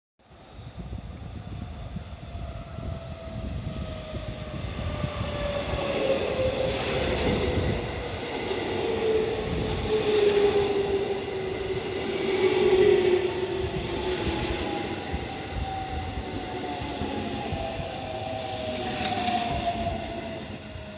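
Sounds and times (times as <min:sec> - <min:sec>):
wheels rumbling on rails: 0:00.5 - 0:20.9.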